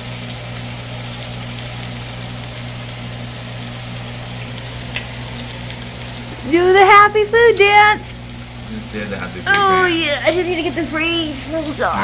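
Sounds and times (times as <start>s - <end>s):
low motor hum: 0.0s - 12.0s
pancakes frying: 0.0s - 12.0s.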